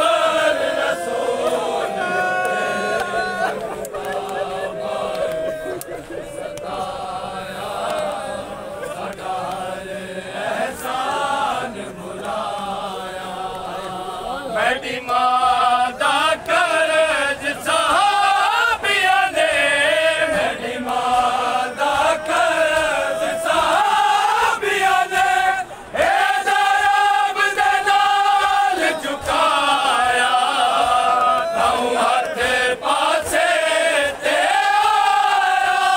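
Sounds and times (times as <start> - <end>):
men chanting a lament: 0.0 - 35.9.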